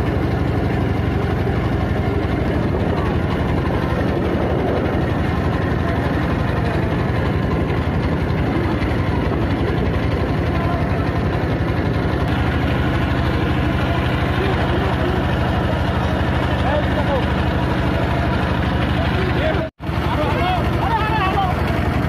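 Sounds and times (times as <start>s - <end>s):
motorboat engine throbbing: 0.0s - 22.0s.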